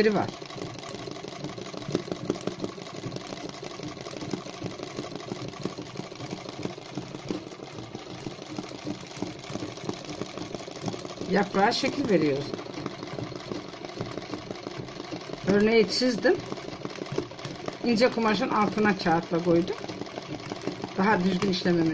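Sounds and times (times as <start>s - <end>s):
sewing machine needle clattering: 0.0s - 21.9s.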